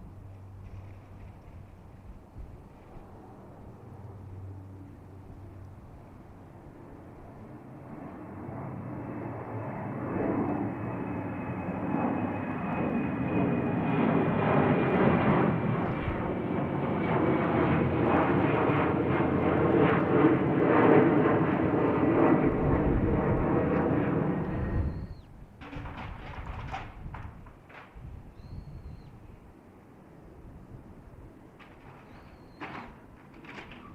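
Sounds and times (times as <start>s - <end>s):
jet engine roar: 0.0s - 33.9s.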